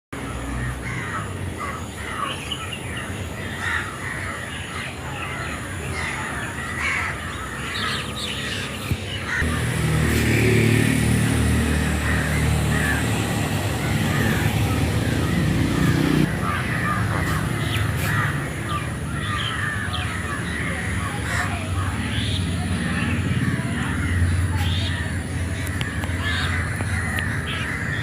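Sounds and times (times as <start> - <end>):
crows cawing: 0.4 - 28.0.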